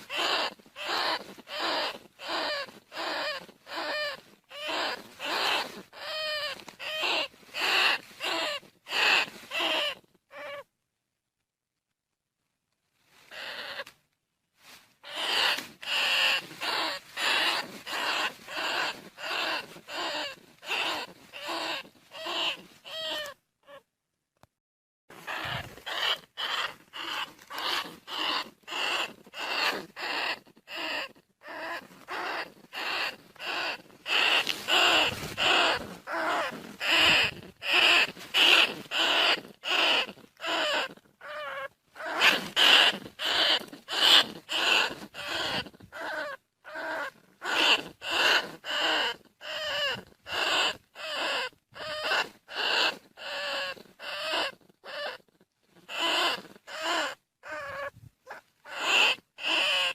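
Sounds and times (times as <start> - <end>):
rat squeaking calls: 0.0 - 10.7, 13.3 - 14.0, 15.0 - 23.8, 25.1 - 59.9.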